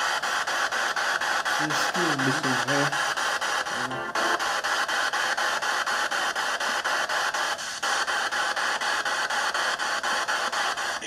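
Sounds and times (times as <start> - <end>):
radio static sweeping: 0.0 - 11.0.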